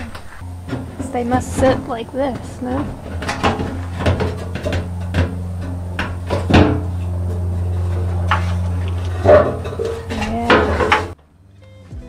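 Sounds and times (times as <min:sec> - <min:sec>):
metal parts knocking and clanking: 0:00.0 - 0:11.2
steady low hum: 0:00.0 - 0:11.5.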